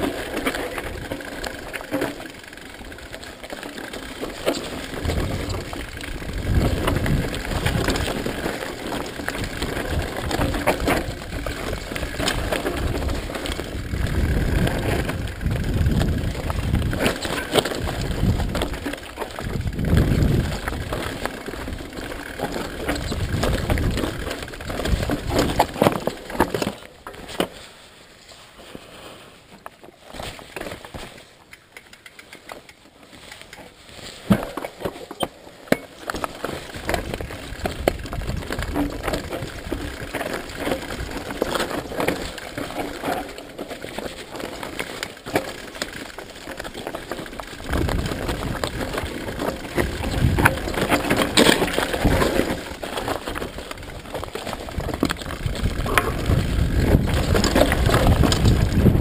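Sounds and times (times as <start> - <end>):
bike rattling: 0.0 - 59.0
bike tyres rolling over stones: 0.0 - 59.0.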